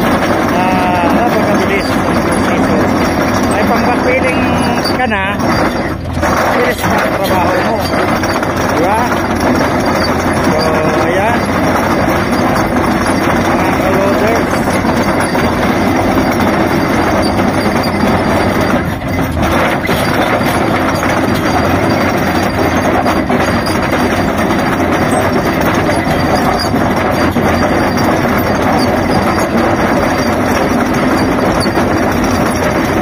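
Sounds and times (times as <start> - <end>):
trencher grinding through rock: 0.0 - 33.0.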